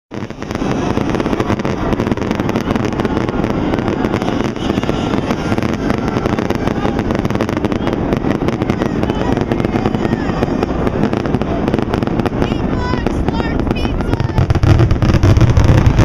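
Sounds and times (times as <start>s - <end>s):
fireworks bursting: 0.1s - 16.0s.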